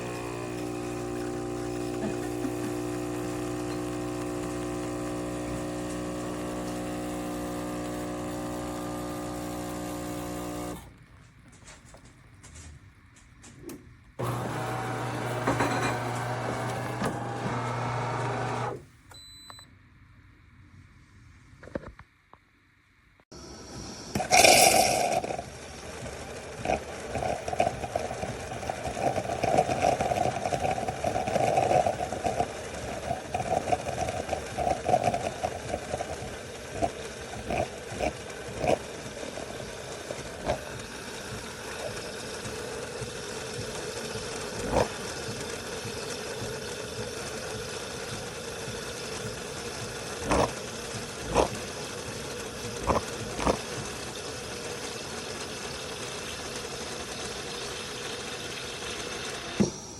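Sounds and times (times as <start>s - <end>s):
espresso machine humming: 0.0s - 11.0s, 14.2s - 18.8s, 23.4s - 59.9s.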